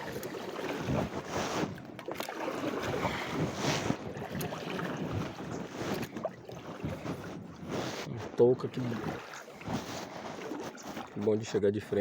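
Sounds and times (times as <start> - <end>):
water splashing around a kayak: 0.0 - 12.0.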